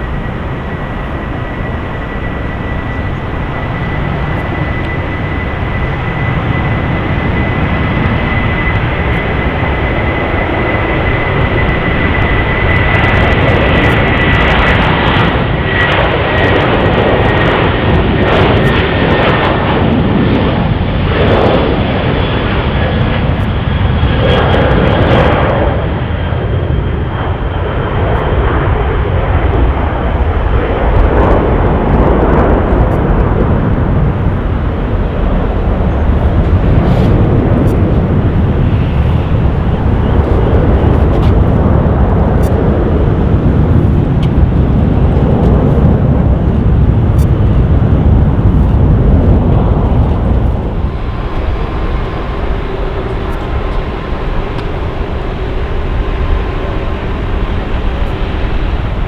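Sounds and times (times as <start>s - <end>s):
engine whine: 0.0s - 59.0s
jet engines rumbling: 0.0s - 59.0s.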